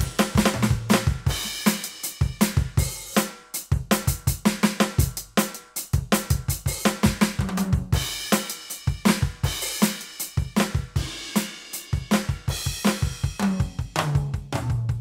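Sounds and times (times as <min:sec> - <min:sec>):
electronic drum kit beat: 0:00.0 - 0:15.0.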